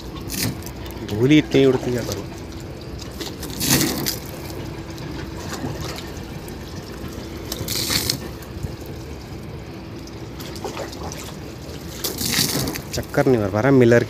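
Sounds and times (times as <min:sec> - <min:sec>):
water spraying onto a car: 0:00.0 - 0:13.6
faint steady hum: 0:00.0 - 0:14.0.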